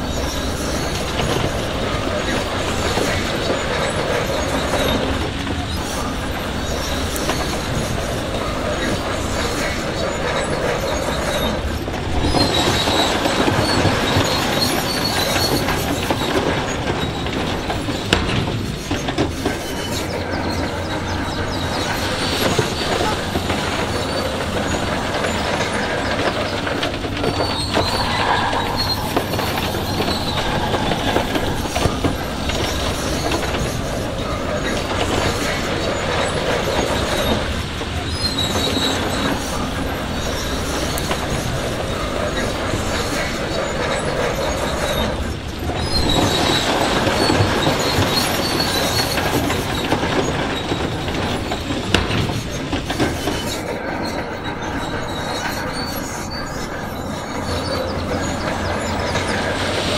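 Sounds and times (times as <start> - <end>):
diesel engine running: 0.0 - 53.5
steel tracks squealing: 0.0 - 59.9.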